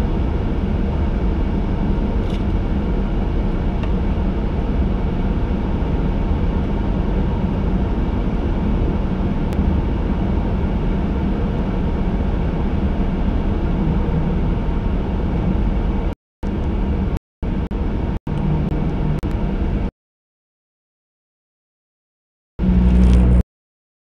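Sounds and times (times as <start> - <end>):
car interior road rumble: 0.4 - 19.9, 22.6 - 23.4.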